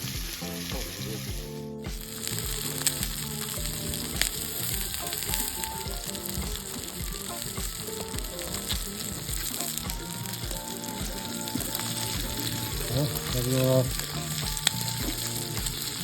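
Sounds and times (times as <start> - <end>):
meat sizzling in a pan: 0.0 - 16.0
music with steady beat: 0.0 - 16.0
fat spattering pops: 0.1 - 16.0.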